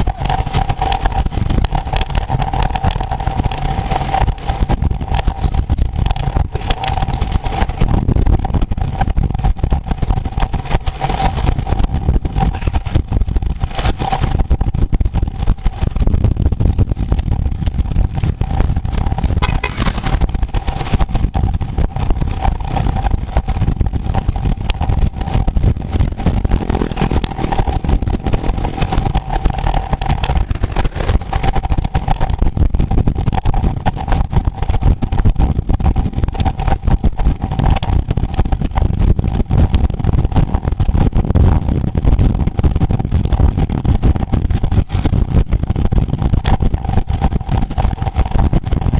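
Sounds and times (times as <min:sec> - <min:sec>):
high whine: 0:00.0 - 0:48.9
wind and road noise rumble: 0:00.0 - 0:48.9.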